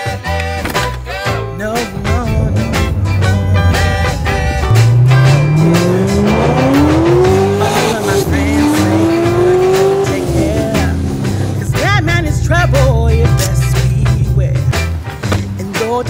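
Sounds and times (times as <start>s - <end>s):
background music: 0.0s - 16.0s
car engine accelerating: 1.1s - 15.7s.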